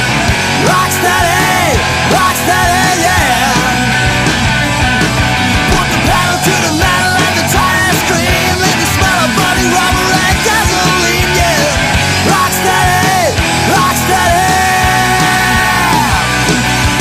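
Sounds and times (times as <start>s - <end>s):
bending guitar lead lines: 0.0s - 17.0s
rock music: 0.0s - 17.0s
drum beat: 0.3s - 17.0s.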